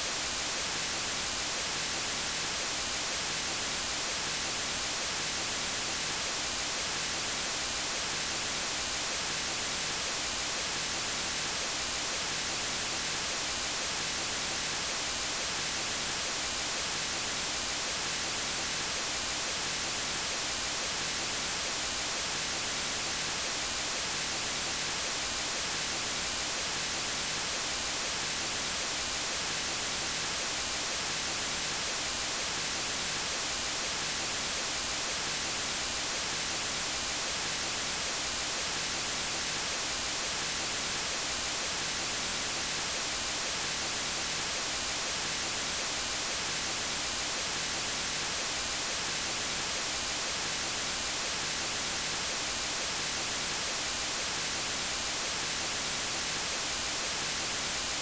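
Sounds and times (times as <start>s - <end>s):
hissing white noise: 0.0s - 58.0s.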